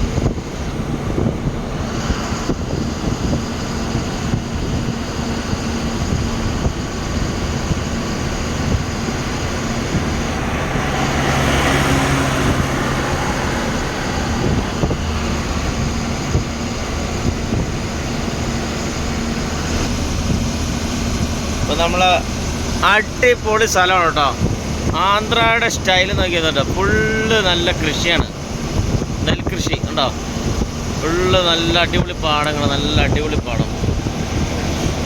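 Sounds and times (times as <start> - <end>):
truck engine running: 0.0 - 35.0
wind and road noise: 0.0 - 35.0
vehicle passing: 4.4 - 35.0.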